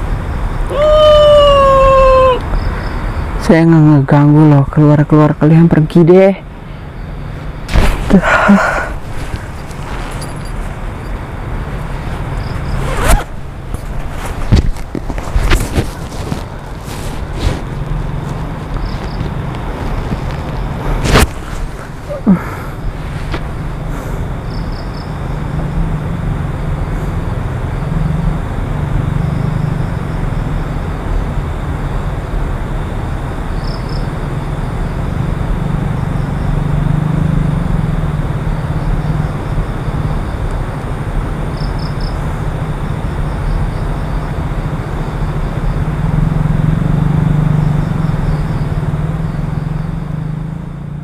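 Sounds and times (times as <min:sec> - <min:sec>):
rushing night ambience: 0:00.0 - 0:51.0.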